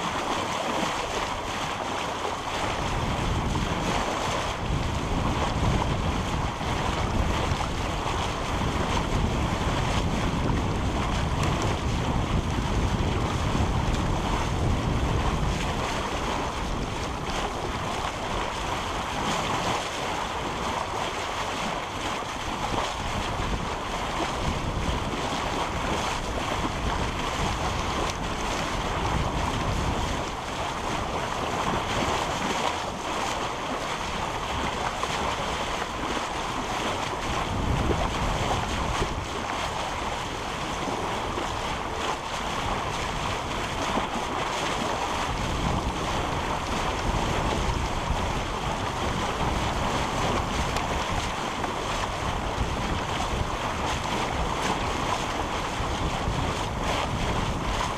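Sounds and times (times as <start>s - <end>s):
water rushing along hull: 0.0s - 57.9s
wind buffeting microphone: 0.0s - 57.9s.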